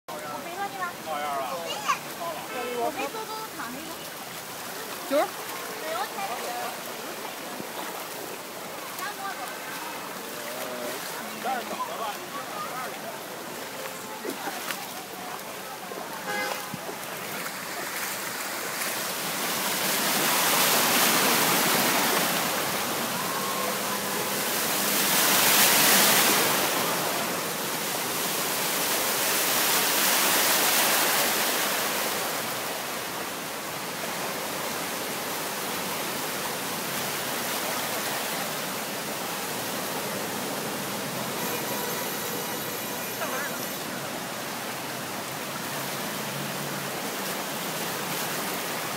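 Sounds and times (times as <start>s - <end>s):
floodwater rushing: 0.1s - 48.9s
heavy rain pouring: 0.2s - 48.9s.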